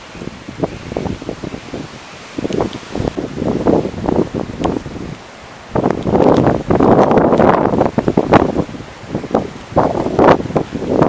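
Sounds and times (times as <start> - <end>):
steady rush of wind: 0.0 - 11.0
wind gusting against microphone: 0.0 - 11.0.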